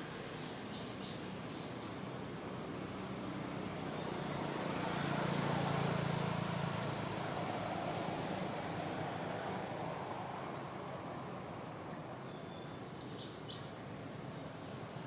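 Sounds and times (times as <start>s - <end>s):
vehicle engine hum: 0.0s - 12.2s.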